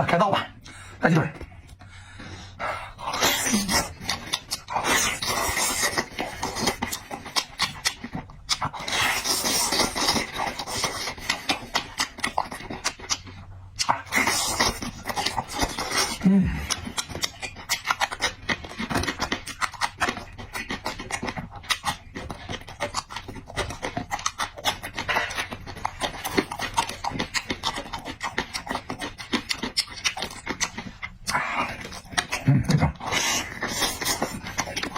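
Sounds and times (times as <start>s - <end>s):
chewing and lip-smacking: 0.4s - 34.9s.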